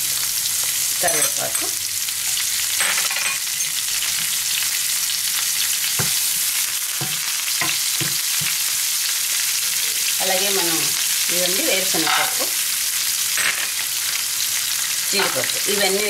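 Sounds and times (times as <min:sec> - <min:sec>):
hot oil sizzling in a pan: 0:00.0 - 0:16.0.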